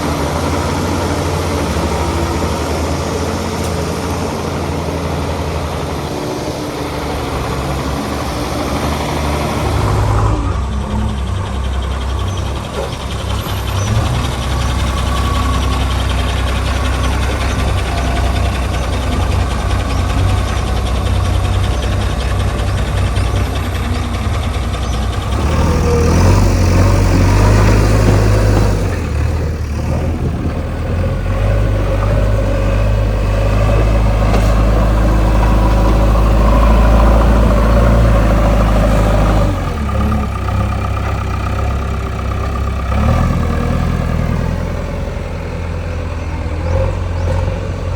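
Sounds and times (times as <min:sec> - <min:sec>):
diesel engine revving: 0:00.0 - 0:47.9.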